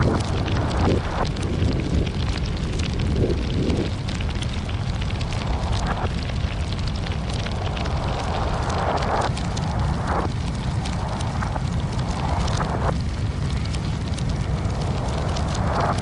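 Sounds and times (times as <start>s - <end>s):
fire crackling and popping: 0.0s - 16.0s
flames rumbling: 0.0s - 16.0s.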